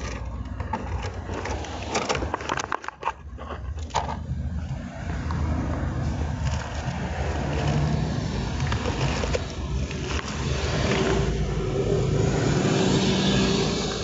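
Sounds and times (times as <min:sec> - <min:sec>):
items rustling and scraping: 0:00.0 - 0:12.0.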